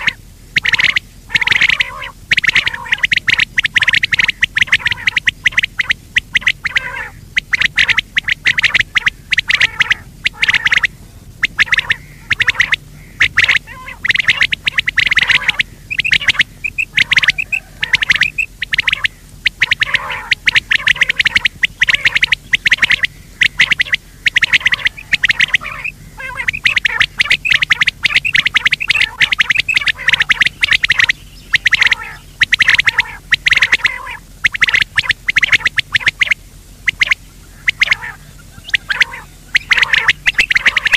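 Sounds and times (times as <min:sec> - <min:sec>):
quail chirping calls: 0:00.0 - 0:40.9.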